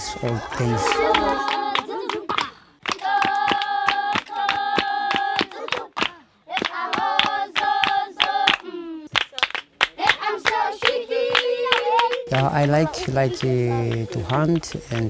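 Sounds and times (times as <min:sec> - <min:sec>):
children singing: 0:00.0 - 0:09.1, 0:10.0 - 0:14.2
hand-clapping: 0:00.2 - 0:15.0.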